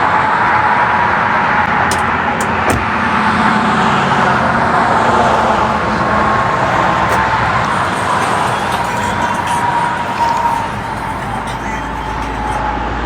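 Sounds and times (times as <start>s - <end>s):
road traffic rush: 0.0s - 13.0s.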